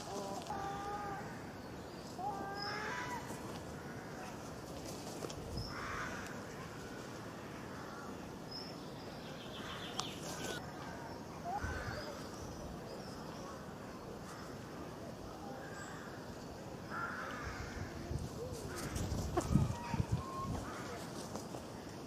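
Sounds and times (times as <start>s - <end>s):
birds calling: 0.0s - 22.0s
steady background noise: 0.0s - 22.0s.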